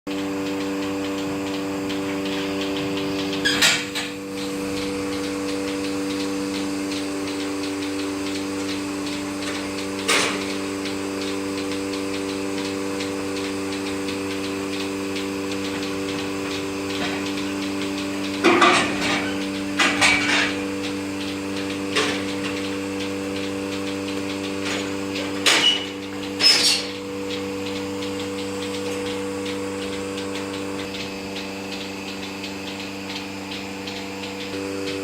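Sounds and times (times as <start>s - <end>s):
electric machinery humming: 0.1s - 35.0s
fast regular ticking: 0.5s - 35.0s.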